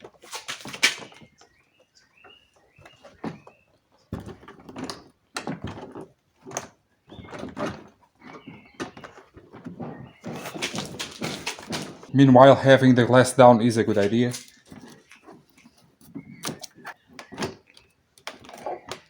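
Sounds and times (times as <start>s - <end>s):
plastic scraping: 0.0s - 1.6s, 2.3s - 19.0s.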